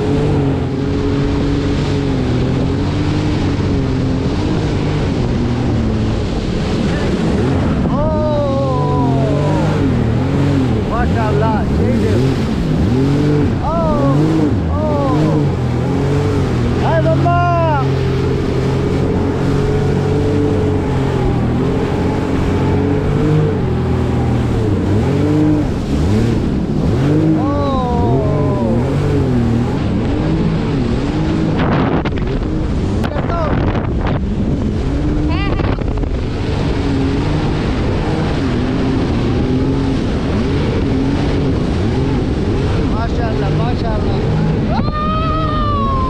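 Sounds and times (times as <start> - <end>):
jet ski engine running: 0.0 - 46.0
steady rush of noise: 0.0 - 46.0.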